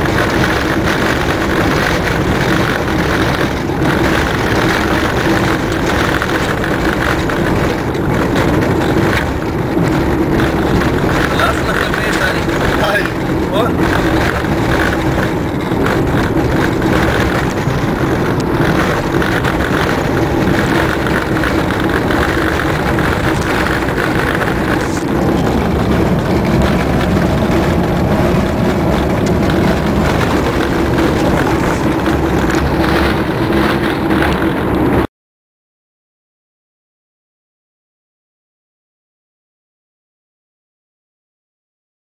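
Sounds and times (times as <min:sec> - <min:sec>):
car engine and road noise: 0:00.0 - 0:35.1.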